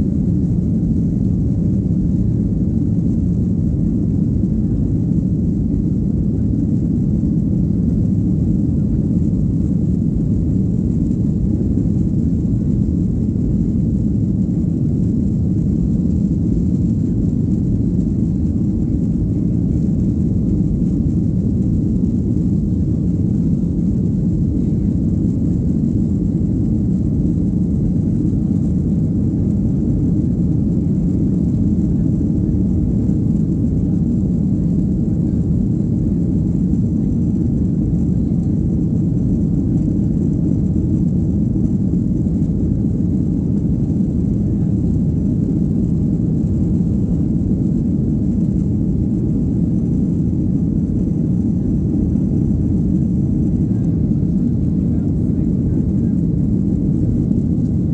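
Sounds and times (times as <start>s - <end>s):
airplane cabin engine rumble: 0.0s - 57.9s.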